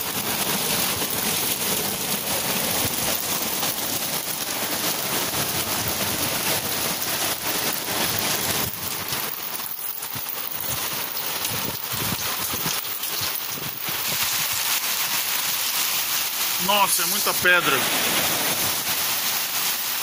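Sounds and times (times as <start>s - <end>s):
hail and rain hissing: 0.0s - 20.0s.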